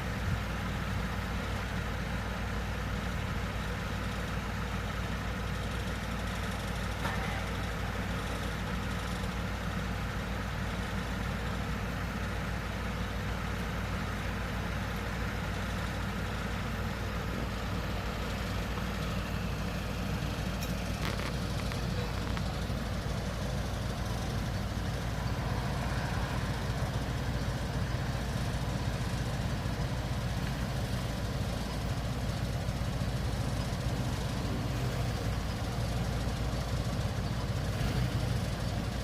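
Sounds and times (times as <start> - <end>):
heavy engine idling: 0.0 - 39.0.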